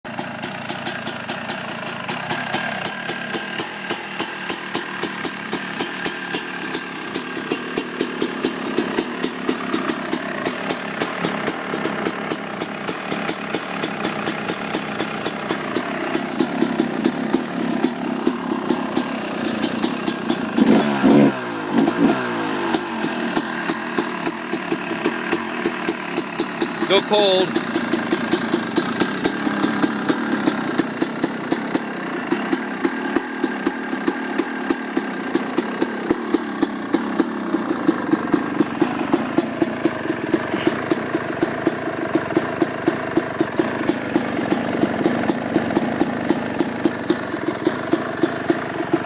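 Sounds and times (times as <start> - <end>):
two-stroke engine idling: 0.0 - 49.0
sharp exhaust pops: 0.1 - 49.0.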